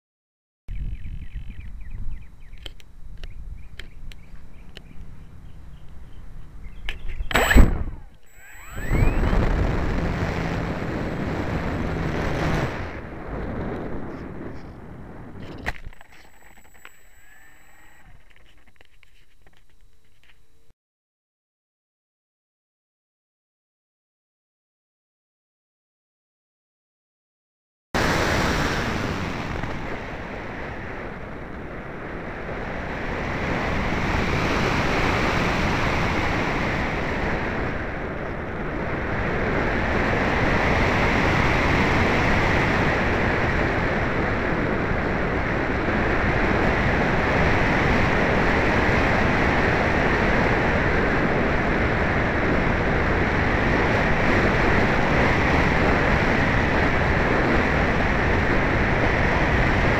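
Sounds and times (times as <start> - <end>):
wind rushing over microphone: 0.7 - 19.2, 28.0 - 59.9.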